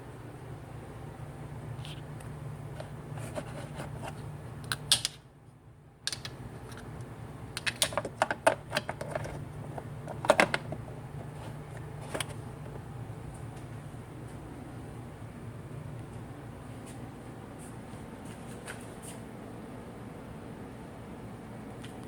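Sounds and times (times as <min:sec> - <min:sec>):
exhaust fan motor hum: 0:00.0 - 0:22.0.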